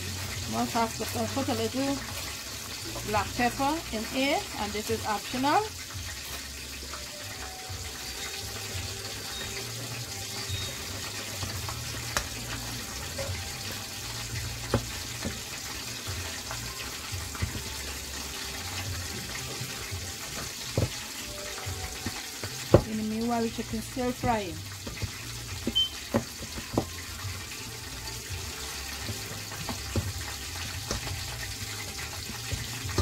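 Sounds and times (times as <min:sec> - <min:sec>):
chicken frying in oil: 0:00.0 - 0:33.0.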